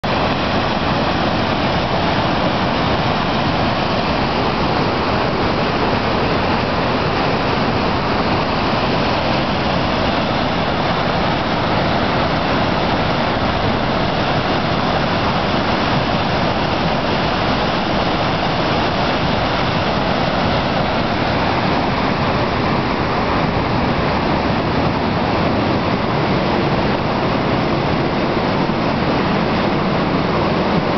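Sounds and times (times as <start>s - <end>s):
flooded creek roaring over weir: 0.0s - 30.9s.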